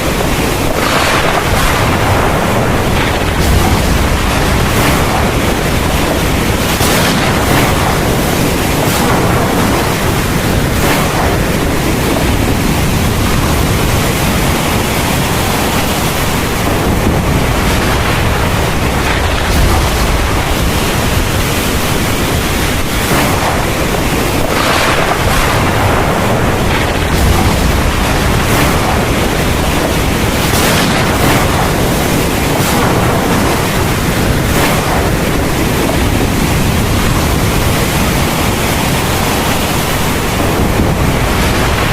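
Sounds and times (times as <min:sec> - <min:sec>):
heavy rain pouring: 0:00.0 - 0:41.9
low thunder rumble: 0:00.0 - 0:41.9.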